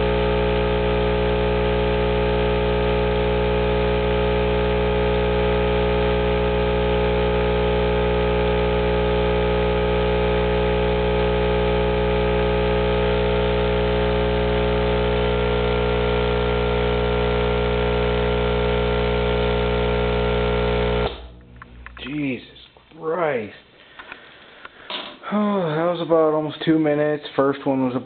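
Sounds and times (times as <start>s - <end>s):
subwoofer mains hum and buzz: 0.0s - 26.6s.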